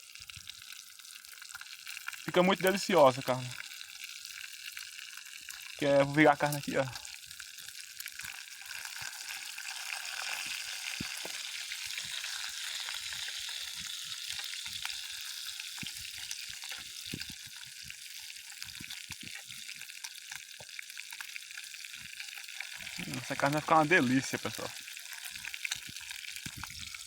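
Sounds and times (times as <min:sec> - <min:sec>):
meat sizzling over embers: 0:00.0 - 0:27.0.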